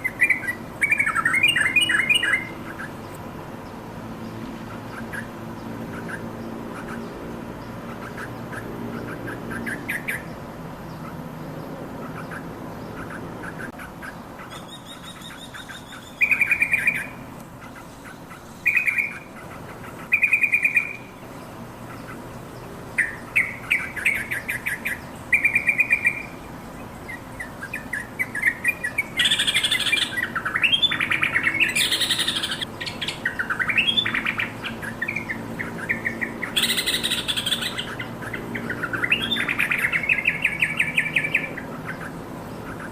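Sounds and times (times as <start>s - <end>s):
bird chattering and singing: 0.0s - 42.9s.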